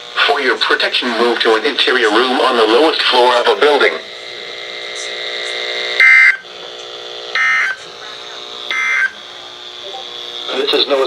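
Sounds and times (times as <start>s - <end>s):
steady buzzing hum: 0.0s - 11.0s.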